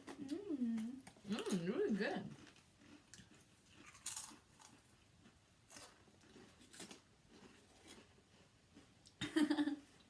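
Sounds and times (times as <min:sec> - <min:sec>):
potato chips being chewed: 0:00.0 - 0:09.3.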